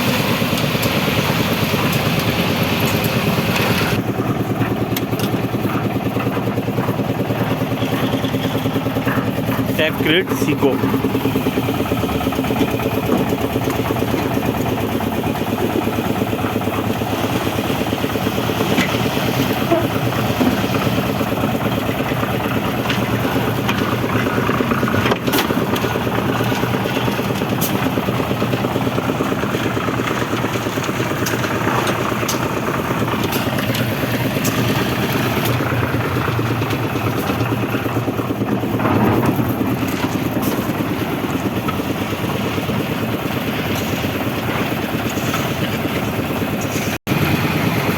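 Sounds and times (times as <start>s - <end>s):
concrete mixer engine running: 0.0s - 47.9s
sharp knocks and clatters: 0.3s - 47.1s.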